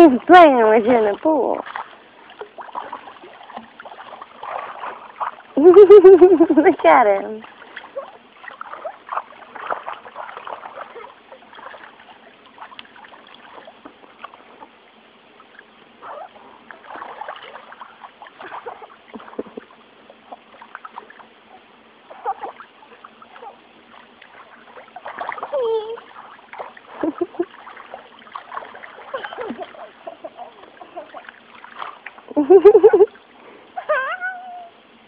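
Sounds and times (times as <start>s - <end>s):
water splashing in a pool: 0.0s - 35.0s.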